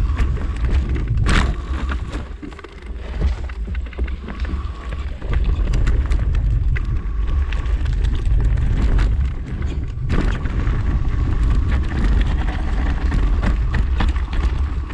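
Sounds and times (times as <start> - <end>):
wind buffeting microphone: 0.0 - 2.4, 3.2 - 14.9
bike tyres rattling over stones: 0.0 - 14.9
low rumble: 0.0 - 14.9.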